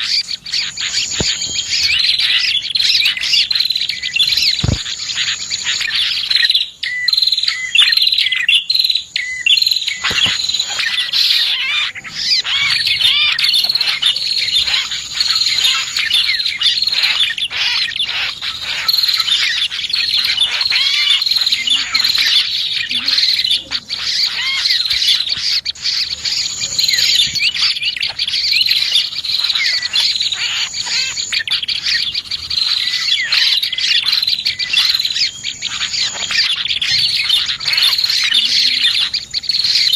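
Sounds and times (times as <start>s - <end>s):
high steady bird trill: 0.0s - 39.9s
small birds chirping: 0.0s - 39.9s.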